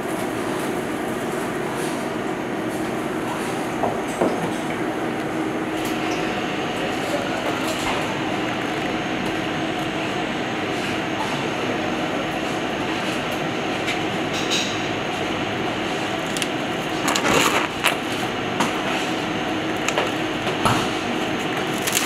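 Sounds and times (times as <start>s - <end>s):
commercial kitchen rushing noise: 0.0s - 22.0s.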